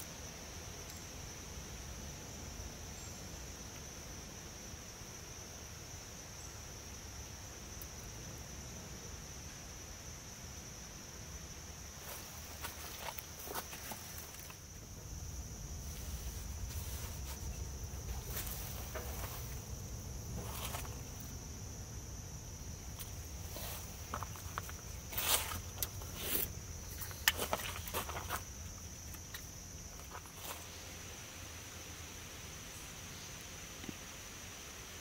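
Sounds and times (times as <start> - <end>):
high-pitched insect trill: 0.0 - 35.0.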